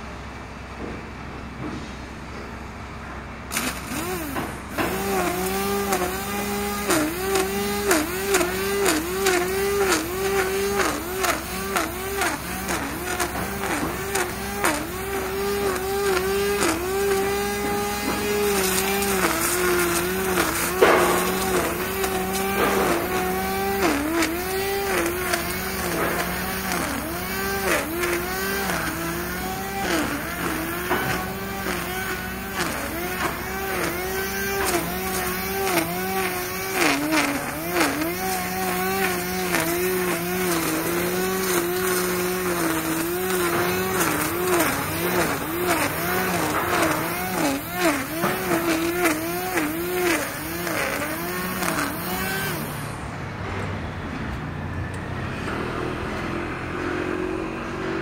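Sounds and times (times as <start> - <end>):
machine whining: 2.3 - 58.0.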